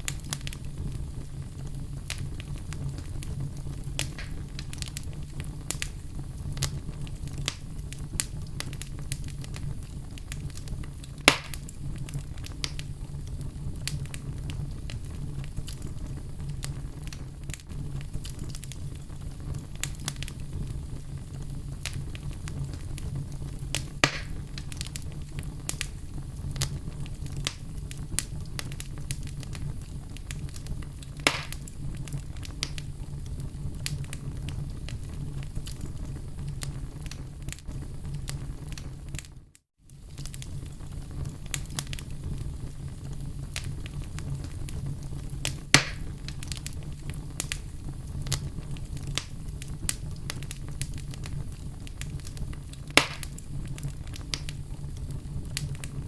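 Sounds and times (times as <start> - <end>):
fire crackling in fireplace: 0.0 - 56.0
loud fire pops: 0.0 - 56.0.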